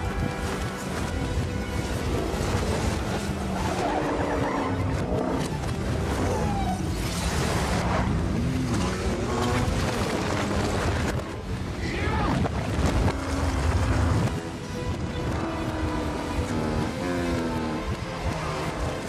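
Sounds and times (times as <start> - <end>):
vehicle engines: 0.0 - 19.0.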